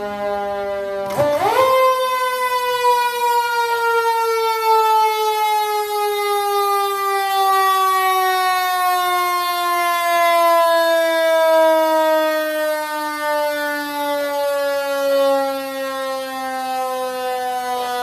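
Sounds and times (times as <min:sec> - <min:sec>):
mechanical siren wailing: 0:00.0 - 0:18.0.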